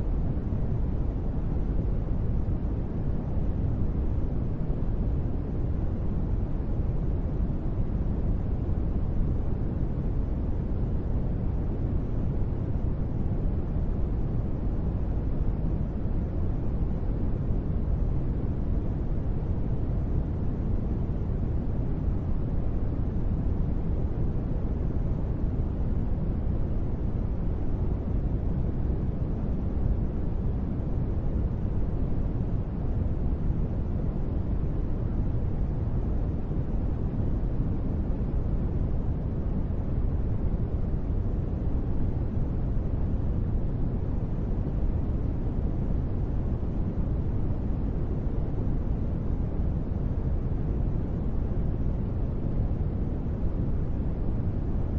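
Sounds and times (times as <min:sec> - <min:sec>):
deep steady white noise: 0:00.0 - 0:54.9.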